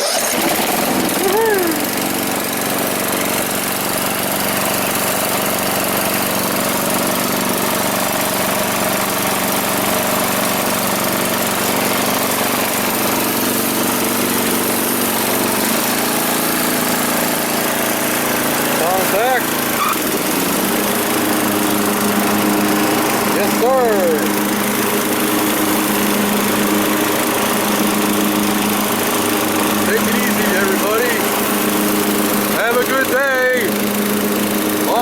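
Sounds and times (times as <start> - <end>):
lawn tractor engine running: 0.0 - 35.0.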